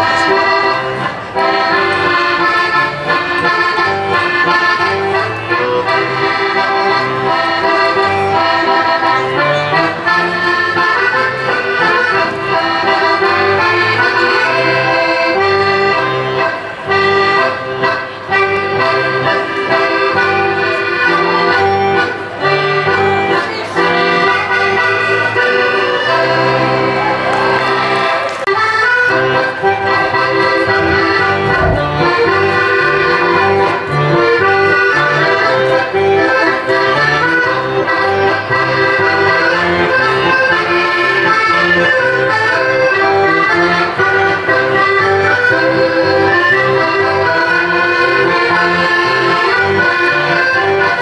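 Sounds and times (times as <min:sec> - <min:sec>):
accordion folk dance tune: 0:00.0 - 0:51.0.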